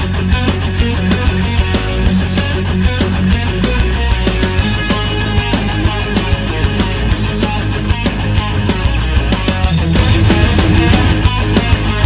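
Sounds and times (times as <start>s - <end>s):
driving drum beat: 0.0s - 12.0s
electric guitar: 0.0s - 12.0s
heavy rock music: 0.0s - 12.0s.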